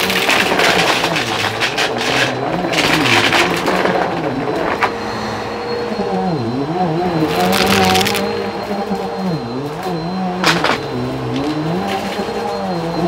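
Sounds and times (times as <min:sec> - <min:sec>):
vacuum cleaner on carpet: 0:00.0 - 0:13.0.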